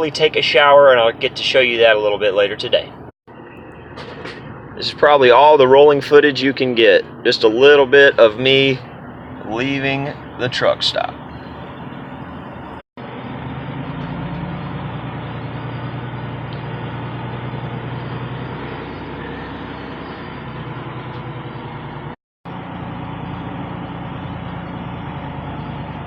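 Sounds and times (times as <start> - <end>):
road noise: 0.0 - 26.0
truck diesel engine running: 0.0 - 26.0.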